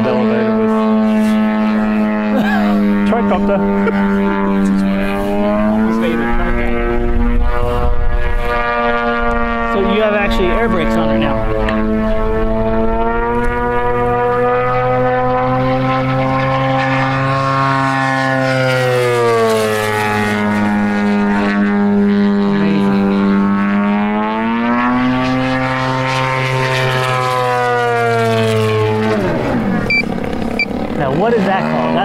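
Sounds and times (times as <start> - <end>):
model airplane engine and propeller: 0.0 - 32.0.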